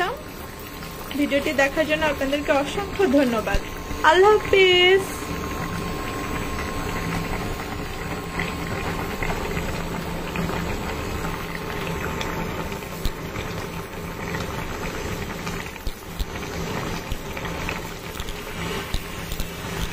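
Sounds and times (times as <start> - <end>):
curry bubbling in a pan: 0.0 - 19.9.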